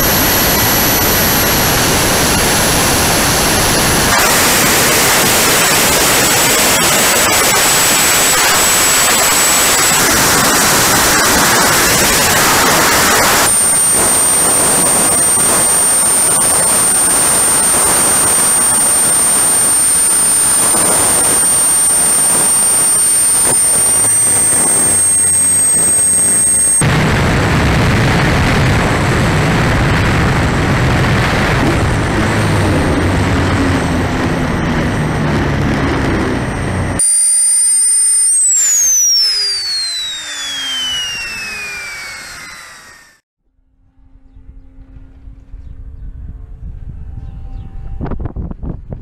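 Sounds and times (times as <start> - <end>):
model jet engine whine: 0.0 - 43.2.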